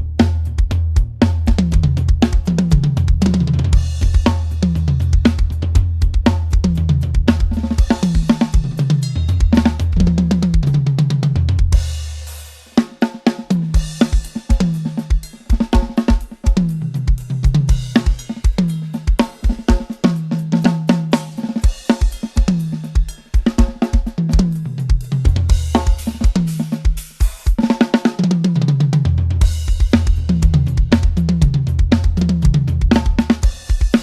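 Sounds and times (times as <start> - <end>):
tom drum fill: 0.0 - 12.4, 13.5 - 19.8, 21.7 - 34.0
drum kit groove: 0.0 - 34.0.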